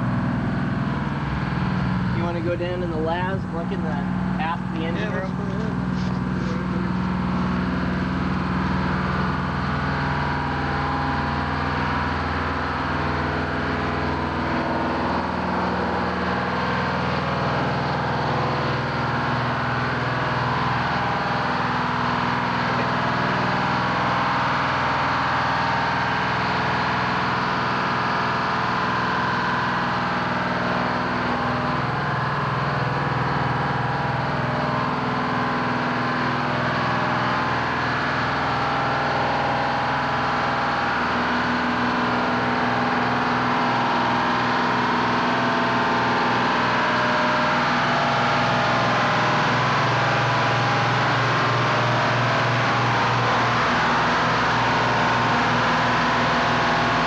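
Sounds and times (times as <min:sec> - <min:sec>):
ship engine drone: 0:00.0 - 0:57.0.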